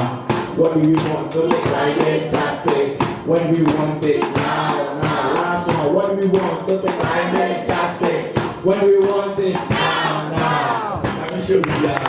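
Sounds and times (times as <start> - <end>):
choir-like singing voices: 0.0 - 12.0.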